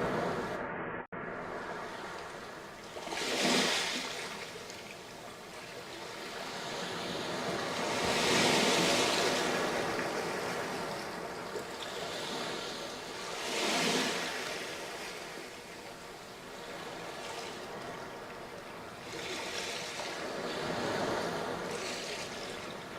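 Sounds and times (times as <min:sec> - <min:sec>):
surf hiss: 0:00.0 - 0:22.9
waves washing on sand: 0:01.2 - 0:22.9.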